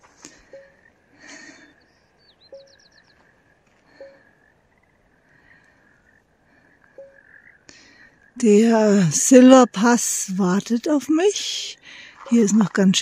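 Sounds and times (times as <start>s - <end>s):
frogs croaking faintly: 0.0s - 13.0s
steady thin background tone: 0.0s - 13.0s.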